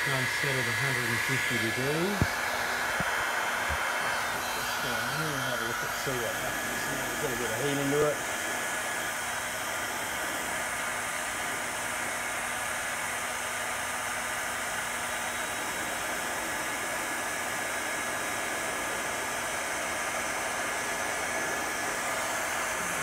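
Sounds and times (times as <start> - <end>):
heat gun blowing hot air: 0.0 - 23.0.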